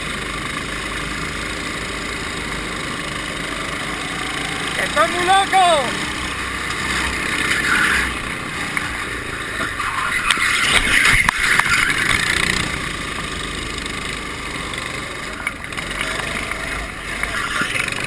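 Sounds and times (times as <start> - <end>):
go-kart engine running: 0.0 - 18.0.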